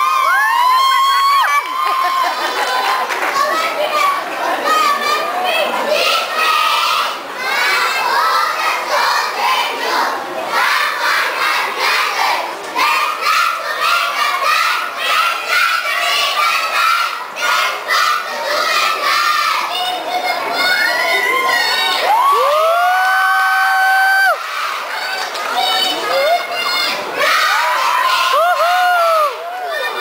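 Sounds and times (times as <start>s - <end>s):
children shouting and chanting: 0.0s - 30.0s.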